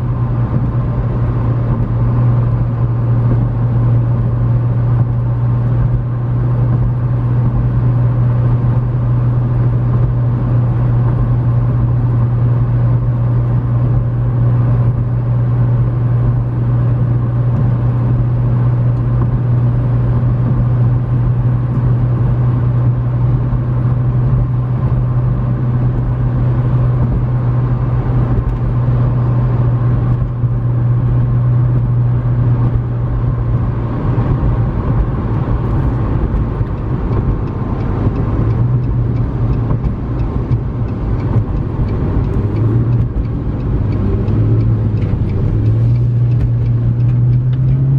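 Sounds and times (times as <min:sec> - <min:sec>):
car engine low drone: 0:00.0 - 0:47.9
tyre and road noise: 0:00.0 - 0:47.9.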